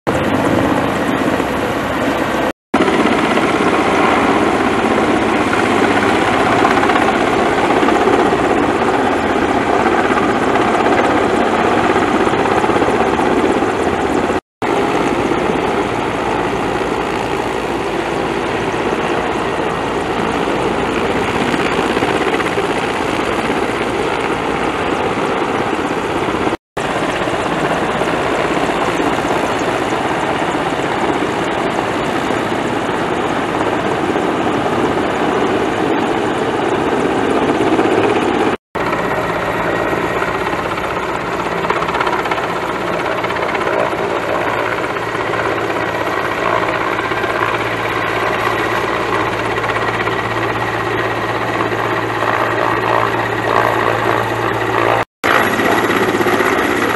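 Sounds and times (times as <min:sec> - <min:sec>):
helicopter rotor and turbines: 0:00.1 - 0:56.9.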